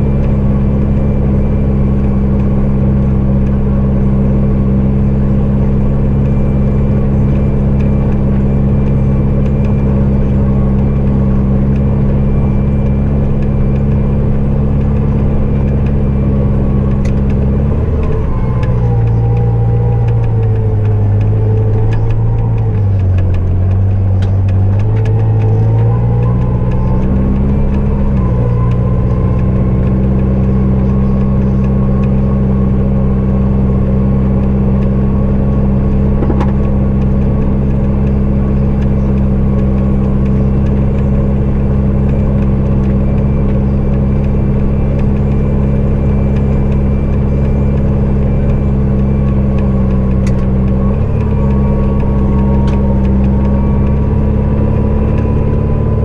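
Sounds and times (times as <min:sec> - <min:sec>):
diesel engine running at high revs: 0:00.0 - 0:56.0.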